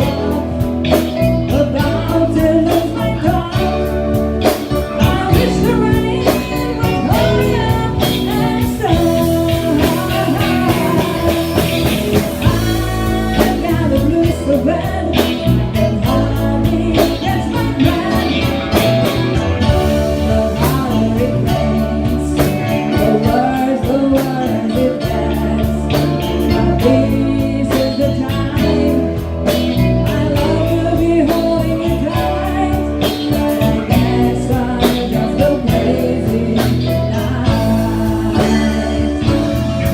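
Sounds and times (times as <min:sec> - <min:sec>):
band playing blues rock: 0:00.0 - 0:39.9
person singing: 0:00.0 - 0:39.9.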